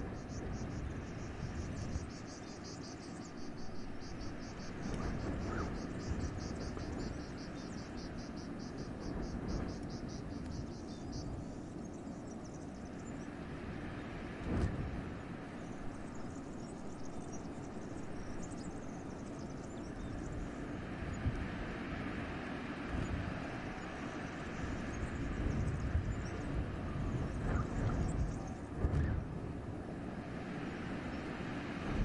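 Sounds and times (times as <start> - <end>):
wind gusting through forest: 0.0 - 32.0.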